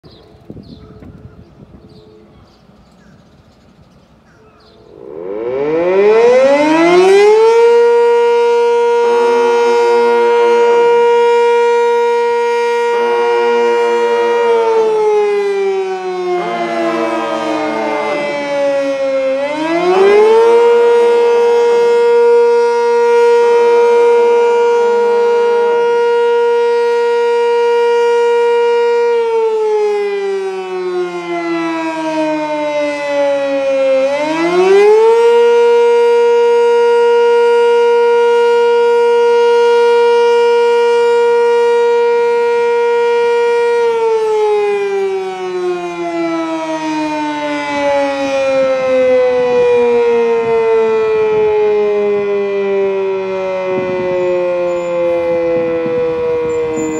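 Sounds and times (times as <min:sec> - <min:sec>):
siren wailing: 0:04.8 - 0:56.9.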